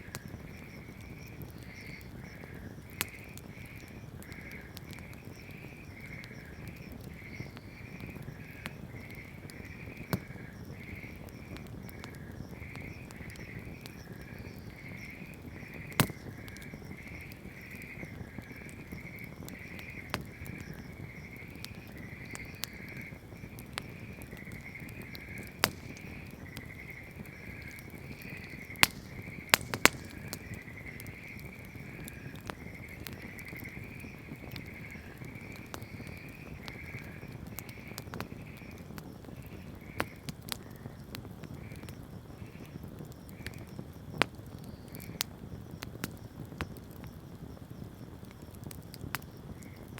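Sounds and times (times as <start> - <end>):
fire crackling pops: 0.0 - 49.9
steady pulsing chirp: 0.0 - 49.9
wood fire burning: 0.0 - 49.9.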